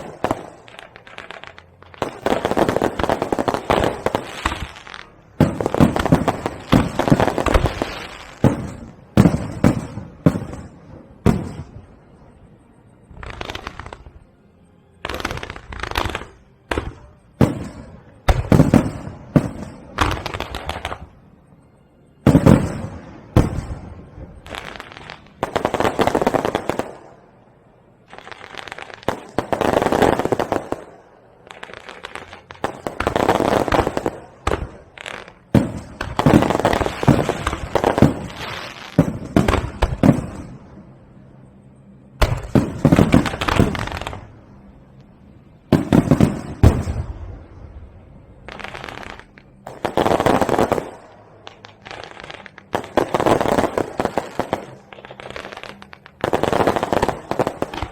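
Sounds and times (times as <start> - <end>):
fireworks bangs: 0.0 - 14.3, 15.0 - 21.2, 22.2 - 27.4, 28.0 - 41.5, 42.1 - 57.9
fireworks crackling: 0.0 - 14.3, 14.9 - 57.9.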